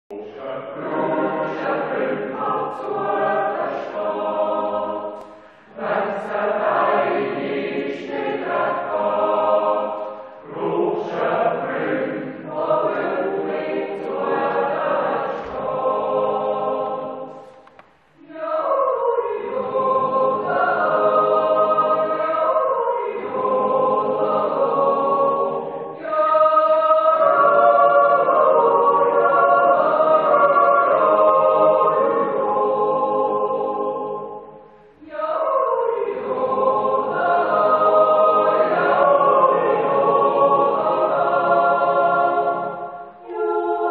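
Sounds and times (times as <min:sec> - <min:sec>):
mixed choir yodeling unaccompanied: 0:00.1 - 0:43.9.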